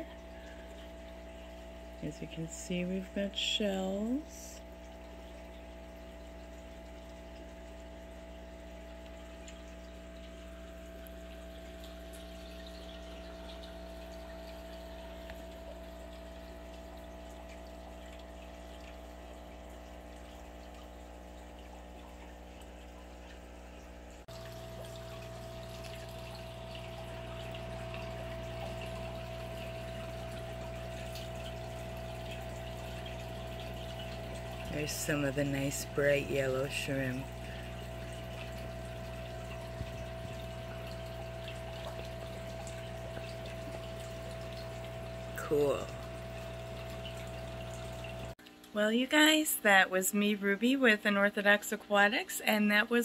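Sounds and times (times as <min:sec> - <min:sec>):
water trickling: 0:00.0 - 0:50.0
filter pump motor hum: 0:00.0 - 0:53.0.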